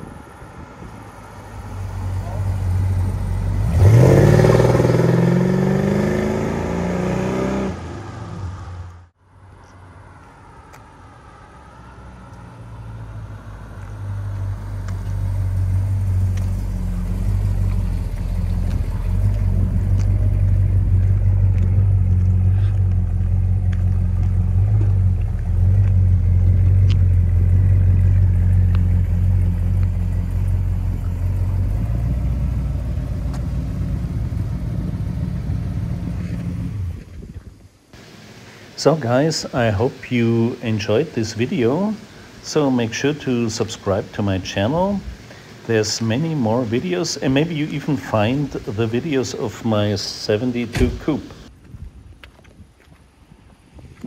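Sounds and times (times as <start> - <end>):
car engine rumbling: 0.0 - 51.6.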